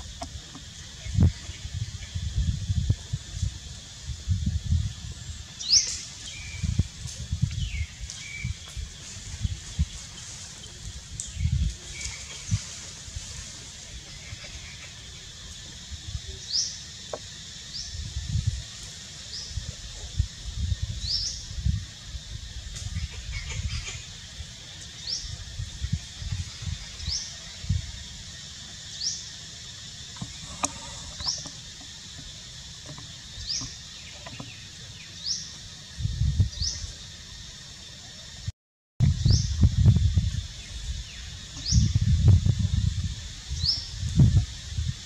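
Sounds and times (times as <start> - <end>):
steady high hiss: 0.0 - 45.0.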